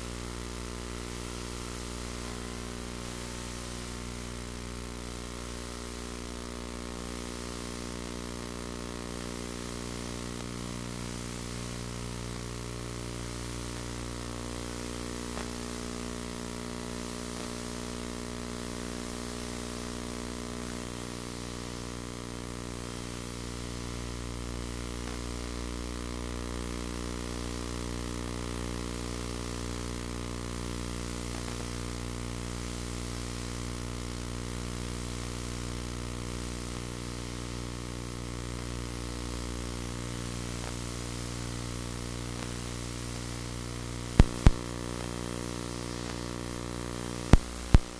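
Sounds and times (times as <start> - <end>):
electrical hum and buzz: 0.0 - 47.9
tape hiss: 0.0 - 47.9.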